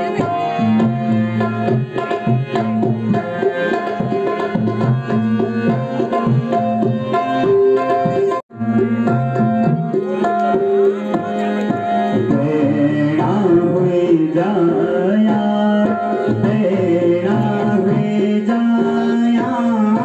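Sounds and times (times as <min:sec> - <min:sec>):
harmonium: 0:00.0 - 0:20.0
tabla strokes: 0:00.0 - 0:20.0.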